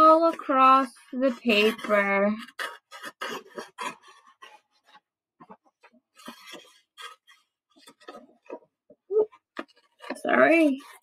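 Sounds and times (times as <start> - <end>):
scissors cutting paper: 0.0 - 5.0, 6.2 - 8.5, 9.5 - 11.0.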